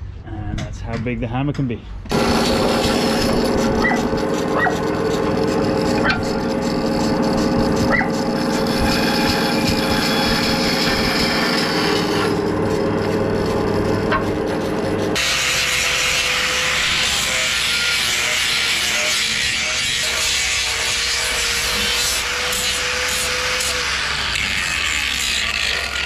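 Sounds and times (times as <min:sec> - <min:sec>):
band saw motor hum: 0:02.1 - 0:26.0.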